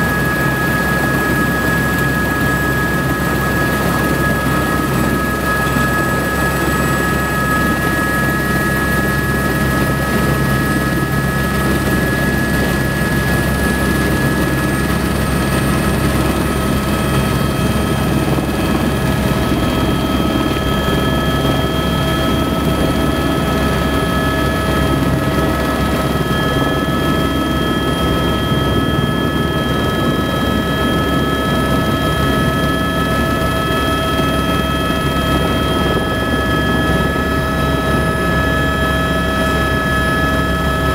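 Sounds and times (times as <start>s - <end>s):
helicopter turbine and rotor: 0.0s - 40.9s.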